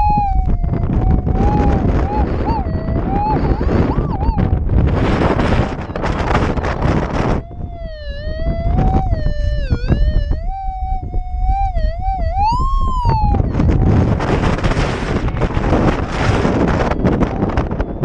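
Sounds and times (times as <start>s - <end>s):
metal detector tone: 0.0s - 18.0s
wind buffeting microphone: 0.0s - 18.0s.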